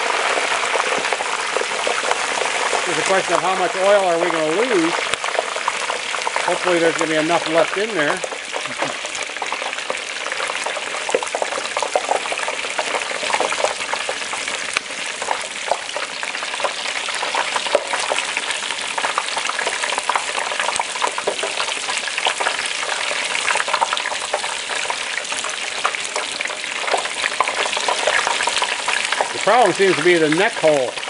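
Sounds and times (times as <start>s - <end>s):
oil bubbling and sizzling: 0.0s - 31.0s.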